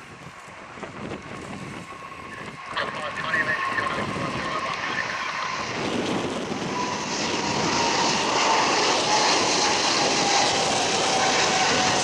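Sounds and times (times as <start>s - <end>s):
jet engine roar and whine: 0.0s - 12.0s.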